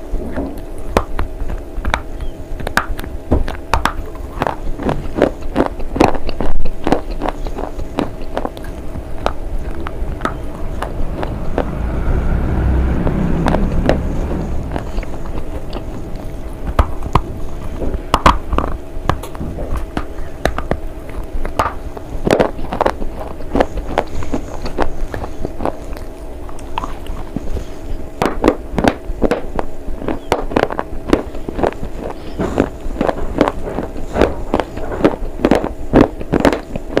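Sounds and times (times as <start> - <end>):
crunchy chewing: 0.3 - 37.0.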